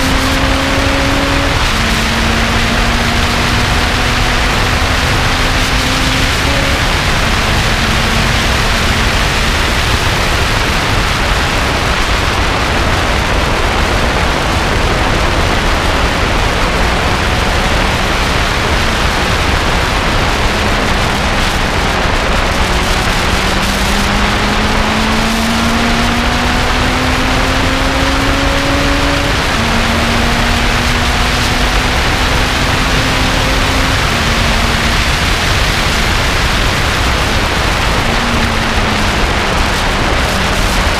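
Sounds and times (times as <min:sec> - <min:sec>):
race car engine: 0:00.0 - 0:40.9
wind and road noise: 0:00.0 - 0:40.9.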